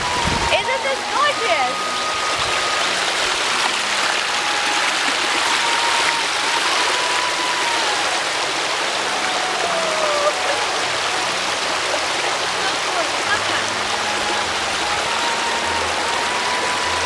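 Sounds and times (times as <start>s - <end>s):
creek running over stones: 0.0s - 17.0s.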